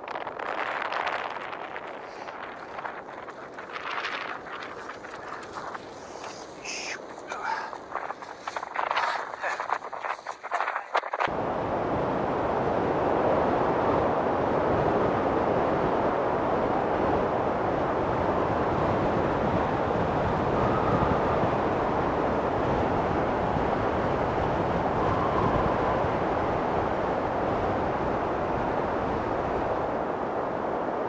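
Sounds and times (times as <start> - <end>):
strong wind on microphone: 0.0 - 31.0.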